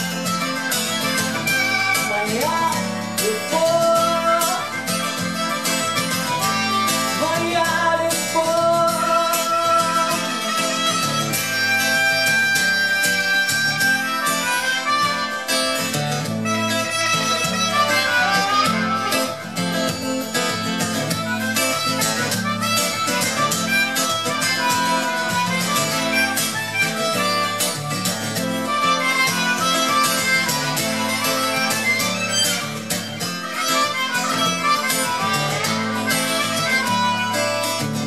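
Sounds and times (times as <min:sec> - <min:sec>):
amplified harmonica solo: 0:00.0 - 0:38.0
strummed acoustic guitar: 0:00.0 - 0:38.0.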